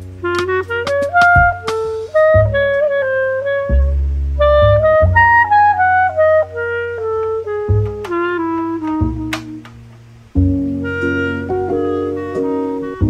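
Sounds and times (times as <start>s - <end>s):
reedy wind lead melody: 0.0s - 13.0s
sustained low bass notes: 0.0s - 13.0s.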